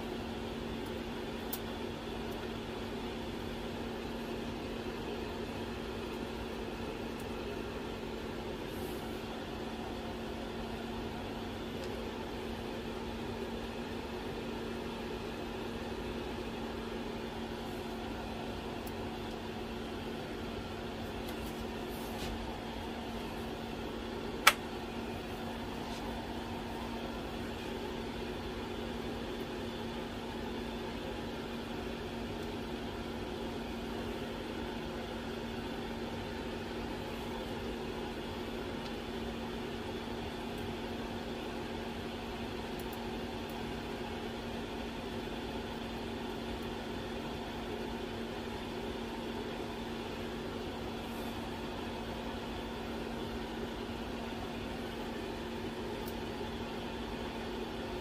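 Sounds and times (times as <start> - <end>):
cooling fan hum: 0.0 - 58.0.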